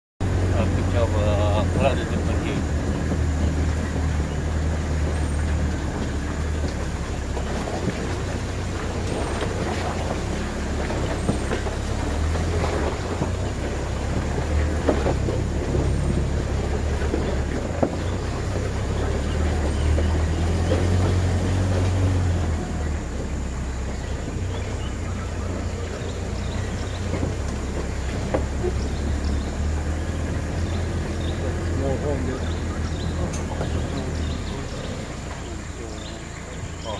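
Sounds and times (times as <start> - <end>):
truck body knocking over bumps: 0.2 - 36.9
truck engine under load: 0.2 - 36.9.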